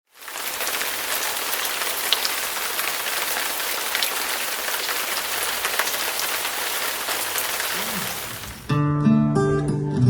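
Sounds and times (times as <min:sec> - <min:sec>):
sharp rain drop ticks: 0:00.1 - 0:08.7
steady rain falling: 0:00.1 - 0:08.7.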